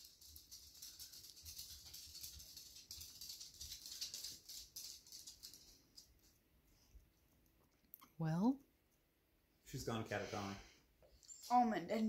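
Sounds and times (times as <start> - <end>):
light steady crackle: 0.0 - 9.8, 10.7 - 12.0.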